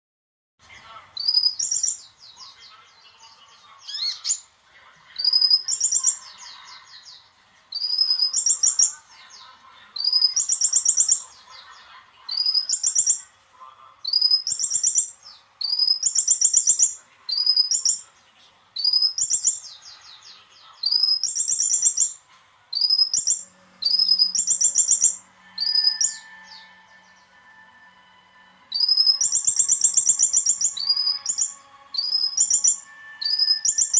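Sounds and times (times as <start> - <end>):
songbird chirping: 0.6 - 33.9.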